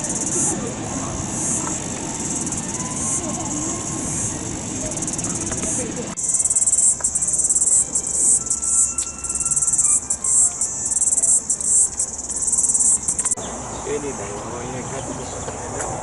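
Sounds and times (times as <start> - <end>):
insect chorus chirring: 0.0 - 16.0
low background murmur: 0.0 - 16.0.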